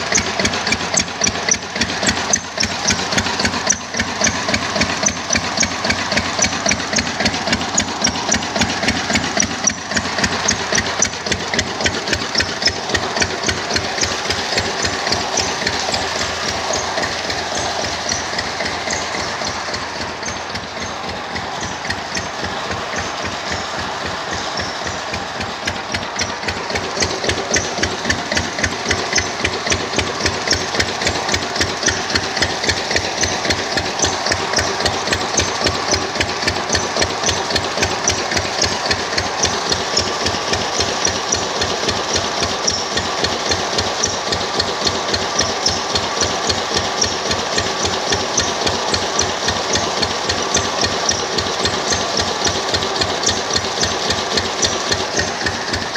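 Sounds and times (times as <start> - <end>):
diesel engine knocking steadily: 0.0 - 55.9.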